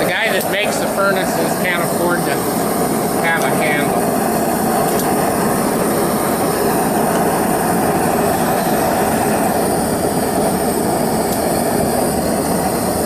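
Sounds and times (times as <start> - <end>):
gas torches roaring: 0.0 - 13.0.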